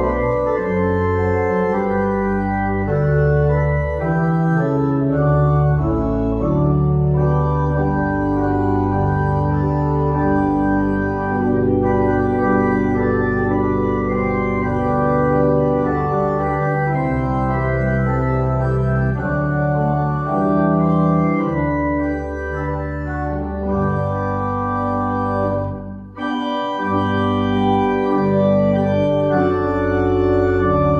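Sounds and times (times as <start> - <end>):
church organ playing chords: 0.0 - 30.9.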